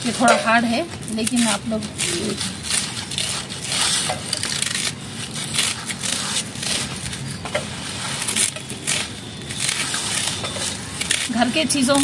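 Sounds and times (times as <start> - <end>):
knife crunching through banana stem: 1.0 - 12.0.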